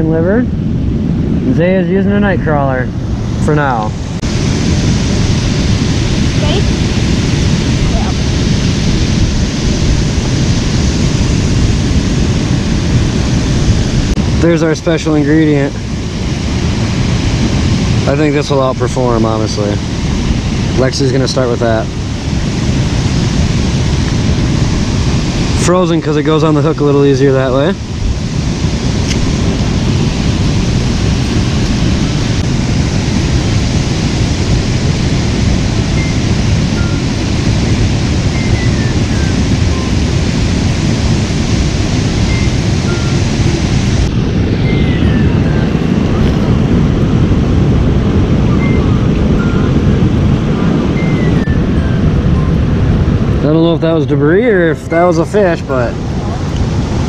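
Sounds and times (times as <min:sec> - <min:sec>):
rumbling wind on microphone: 0:00.0 - 0:57.0
river rushing: 0:03.1 - 0:47.2, 0:54.6 - 0:57.0.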